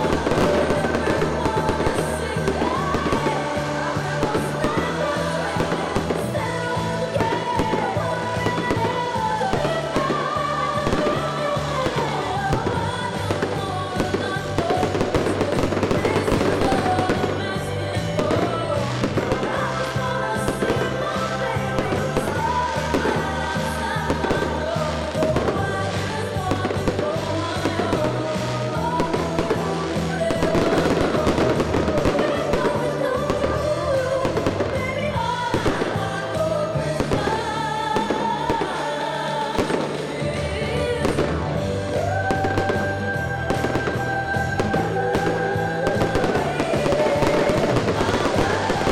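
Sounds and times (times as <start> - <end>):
fireworks popping and crackling: 0.0 - 48.9
loud music: 0.0 - 48.9
person singing: 0.0 - 48.9.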